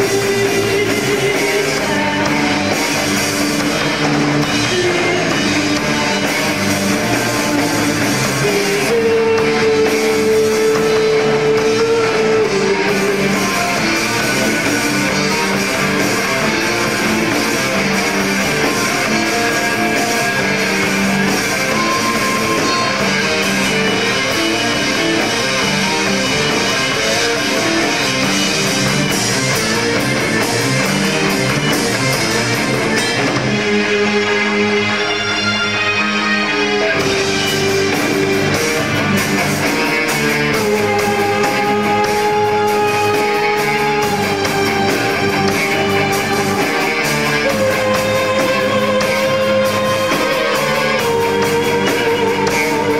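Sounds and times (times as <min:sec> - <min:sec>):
drums: 0:00.0 - 0:52.9
electric guitar: 0:00.0 - 0:52.9
keyboard: 0:00.0 - 0:52.9.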